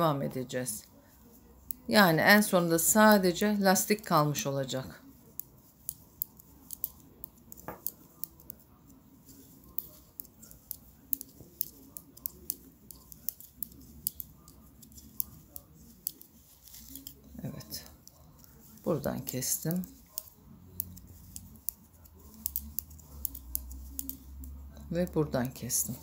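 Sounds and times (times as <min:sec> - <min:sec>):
knitting needles clicking: 0:01.3 - 0:04.2, 0:05.0 - 0:26.0.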